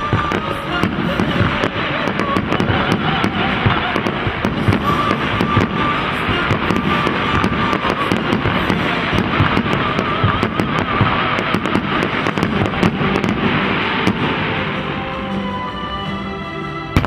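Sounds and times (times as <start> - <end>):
fireworks bursting and crackling: 0.0 - 17.0
music: 0.0 - 17.0.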